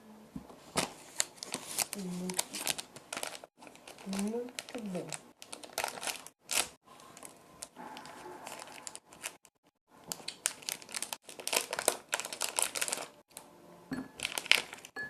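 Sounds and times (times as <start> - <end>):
plastic candy bag crinkling: 0.8 - 13.5, 14.2 - 15.0.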